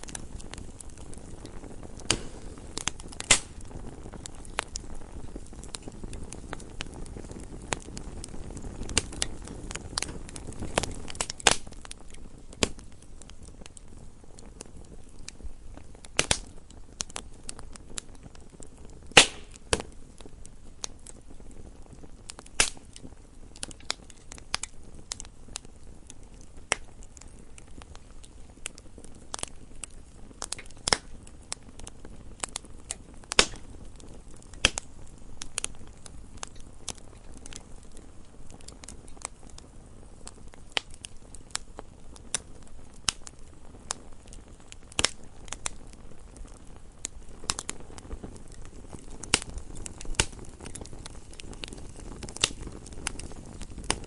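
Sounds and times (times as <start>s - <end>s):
fire crackling and popping: 0.0s - 54.0s
wood fire hissing: 0.0s - 54.0s.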